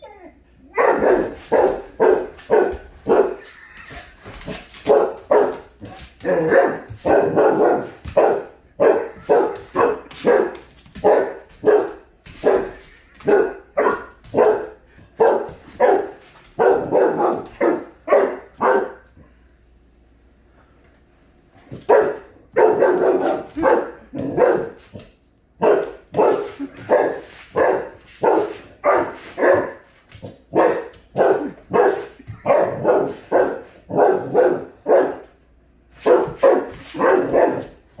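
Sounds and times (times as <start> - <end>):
dog barking: 0.7 - 3.5, 4.8 - 19.1, 21.8 - 24.8, 25.6 - 29.9, 30.5 - 35.3, 36.0 - 37.8.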